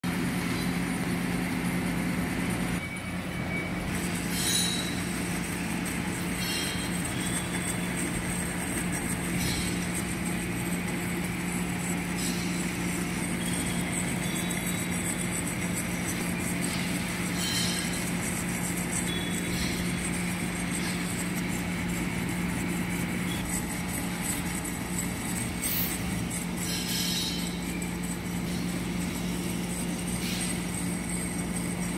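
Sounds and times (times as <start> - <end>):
metal lathe hum: 0.1 - 31.9.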